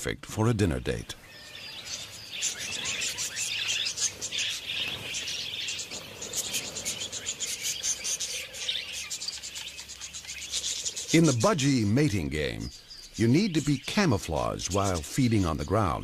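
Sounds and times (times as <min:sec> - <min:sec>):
budgerigars chattering: 0:00.6 - 0:16.0.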